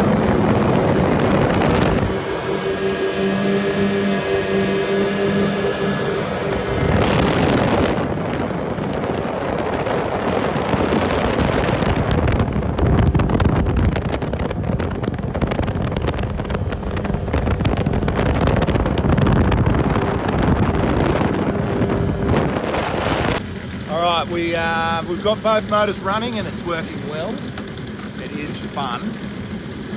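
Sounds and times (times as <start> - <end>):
outboard motors running: 0.0 - 29.9
wind buffeting microphone: 0.0 - 29.9.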